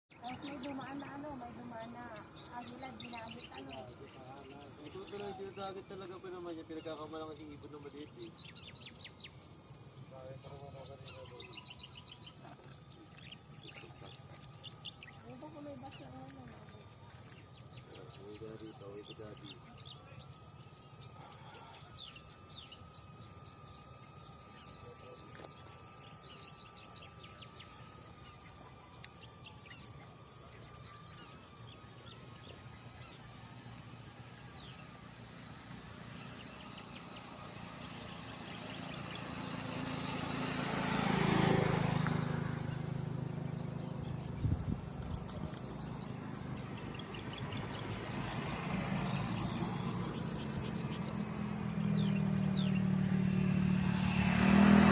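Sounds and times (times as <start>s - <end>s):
insects buzzing: 0.0s - 54.9s
bird chirps: 0.1s - 54.9s
vehicle passing: 0.1s - 54.9s.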